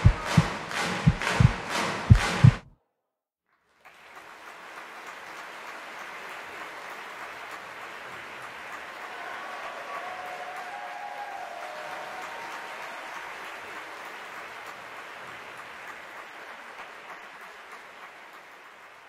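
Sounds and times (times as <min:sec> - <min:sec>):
audience applauding: 0:00.0 - 0:02.6, 0:03.6 - 0:19.0.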